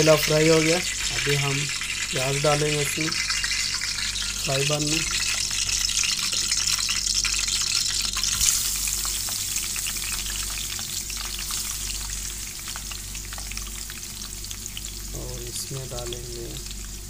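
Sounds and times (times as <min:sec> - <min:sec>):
onions frying in hot oil: 0:00.0 - 0:17.0.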